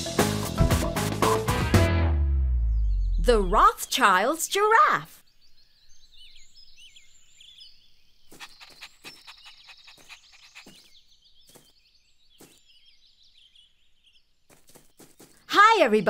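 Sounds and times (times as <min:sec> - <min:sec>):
birds chirping: 0:02.6 - 0:16.0.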